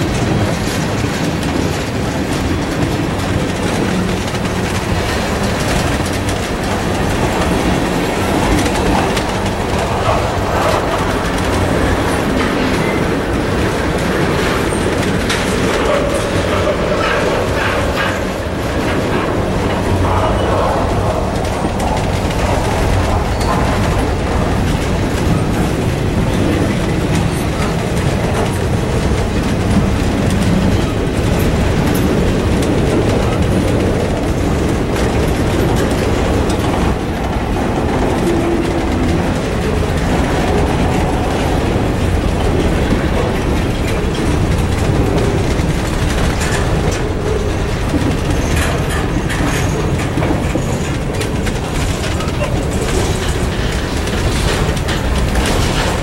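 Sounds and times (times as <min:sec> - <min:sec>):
wheels clicking over rail joints: 0:00.0 - 0:56.0.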